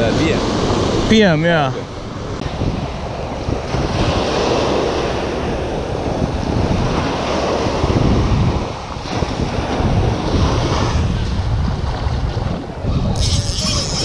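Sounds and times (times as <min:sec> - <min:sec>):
surf waves breaking on sand: 0:00.0 - 0:14.0
wind rumbling on microphone: 0:00.0 - 0:14.0.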